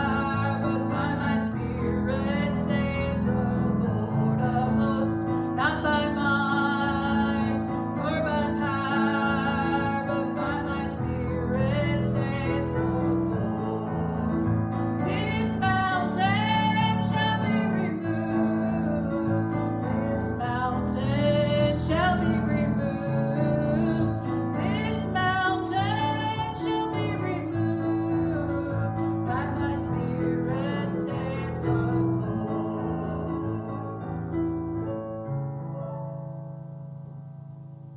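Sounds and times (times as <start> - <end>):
person singing with vibrato: 0.0 - 34.5
piano accompaniment: 0.0 - 37.9.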